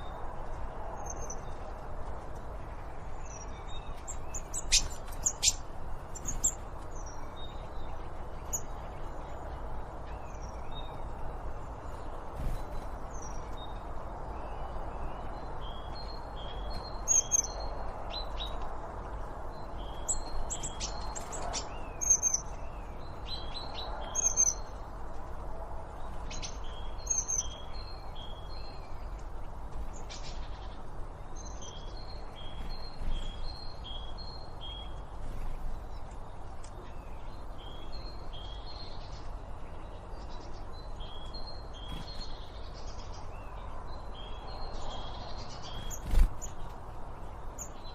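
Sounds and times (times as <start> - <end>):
low background rush: 0.0 - 47.9
wild birds chirping: 0.0 - 47.9.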